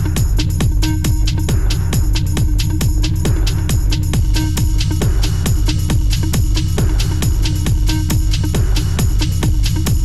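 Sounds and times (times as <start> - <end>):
electronic dance music: 0.0 - 10.0
fast kick drum beat: 0.0 - 10.0.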